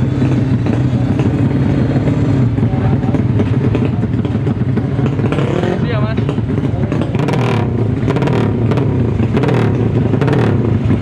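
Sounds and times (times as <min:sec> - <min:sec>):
motorcycle engine idling loudly: 0:00.0 - 0:11.0.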